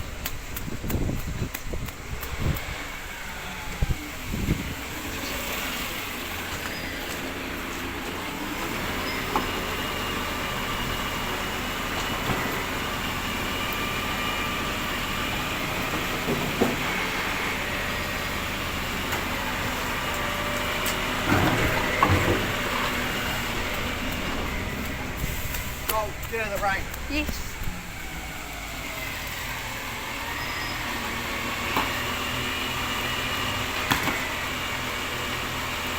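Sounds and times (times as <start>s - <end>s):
garbage truck engine running: 0.0s - 35.9s.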